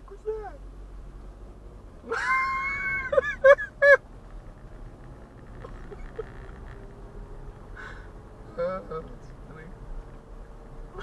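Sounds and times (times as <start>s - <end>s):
low road hum inside car: 0.0s - 11.0s.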